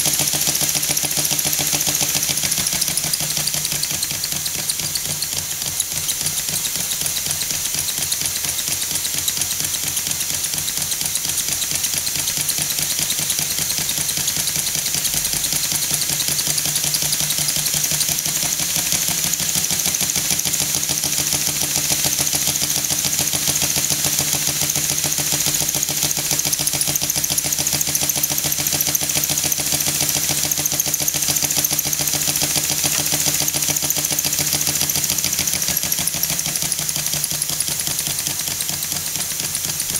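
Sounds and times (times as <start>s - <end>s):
light mechanical clatter: 0.0s - 39.9s
model steam engine running fast: 0.0s - 39.9s.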